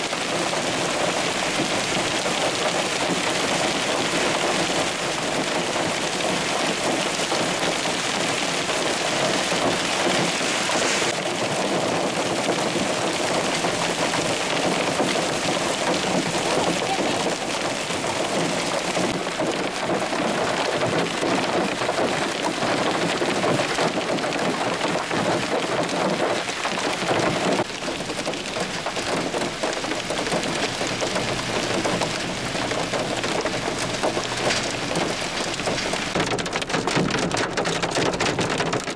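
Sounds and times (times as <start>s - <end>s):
hailstones striking roofs: 0.0s - 38.9s
heavy rain: 0.0s - 38.9s.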